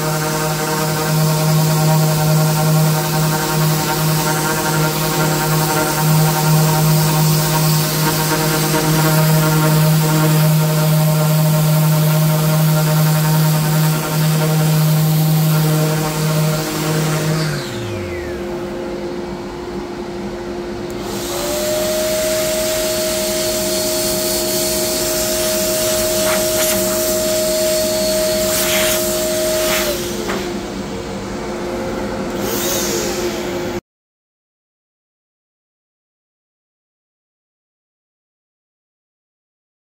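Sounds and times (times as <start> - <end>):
dust extraction vacuum drone: 0.0 - 33.8
orbital sander running: 0.0 - 33.8.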